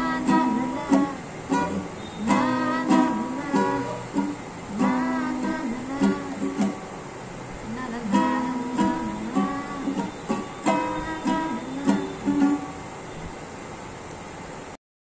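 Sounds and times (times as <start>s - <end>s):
ukulele strumming: 0.0s - 7.0s, 7.7s - 13.0s.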